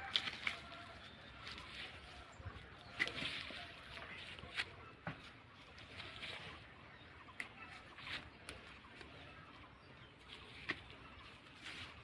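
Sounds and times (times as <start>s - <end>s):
leaves rustling: 0.0s - 12.0s.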